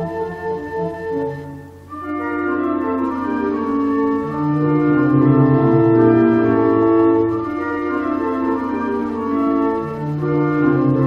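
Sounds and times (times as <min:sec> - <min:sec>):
organ music with held chords: 0:00.0 - 0:11.0.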